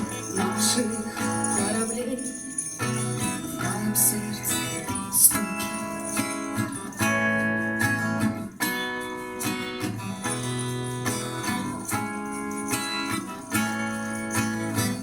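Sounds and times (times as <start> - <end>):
guitar playing held chords: 0.0 - 15.0.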